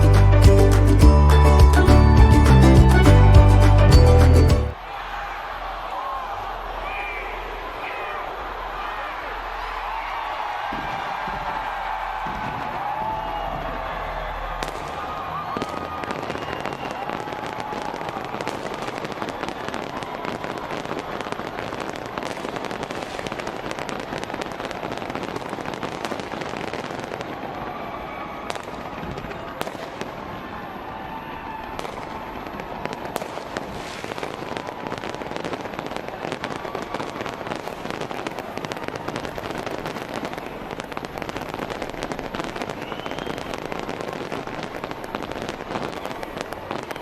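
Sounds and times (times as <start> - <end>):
fireworks crackling and popping: 0.0 - 4.8, 6.9 - 47.0
fireworks bangs: 6.6 - 47.0.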